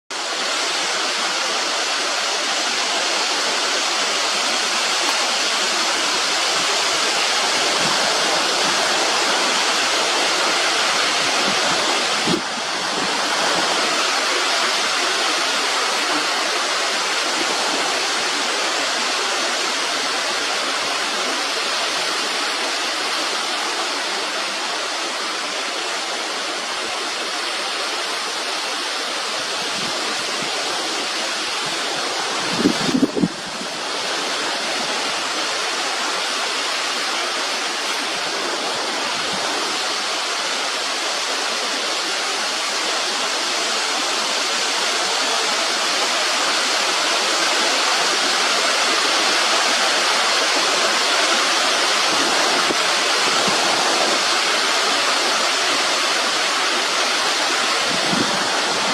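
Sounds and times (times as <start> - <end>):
steady rushing noise: 0.2 - 58.9.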